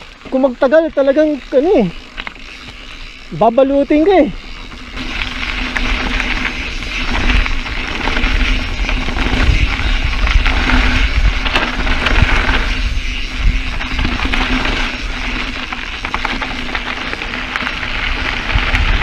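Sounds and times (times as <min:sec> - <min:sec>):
bike rattling: 0:00.0 - 0:19.0
bike tyres crunching on gravel: 0:00.0 - 0:19.0
wind rumble on microphone: 0:03.7 - 0:19.0.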